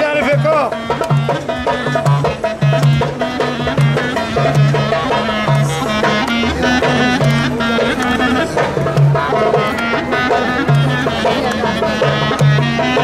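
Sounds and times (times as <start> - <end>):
band playing folk dance music: 0.0 - 13.0
steady drum beat: 0.0 - 13.0.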